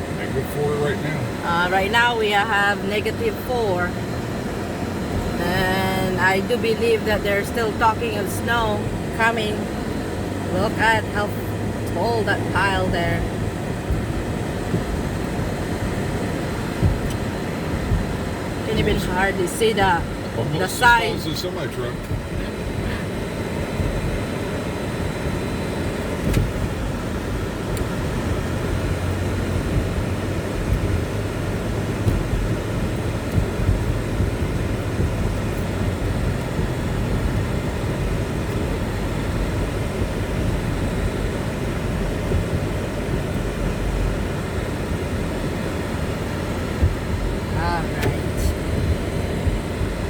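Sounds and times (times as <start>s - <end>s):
car cabin road rumble: 0.0s - 50.0s.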